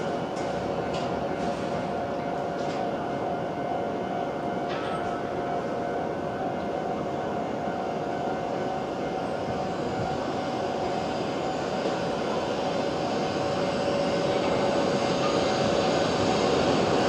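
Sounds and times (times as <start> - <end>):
train rushing drone: 0.0 - 17.0.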